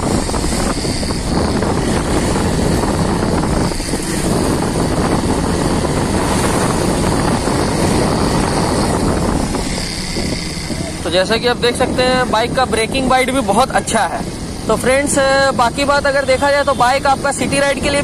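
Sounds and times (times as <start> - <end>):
motorcycle engine running: 0.0 - 16.0
road noise: 0.0 - 18.0
wind noise: 0.0 - 18.0.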